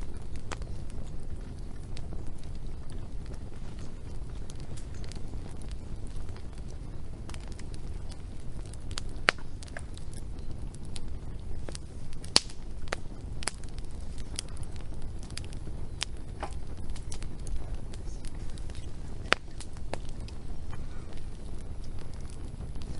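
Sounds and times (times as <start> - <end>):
low fire rumble: 0.0 - 22.9
wood fire crackling and popping: 0.0 - 22.9.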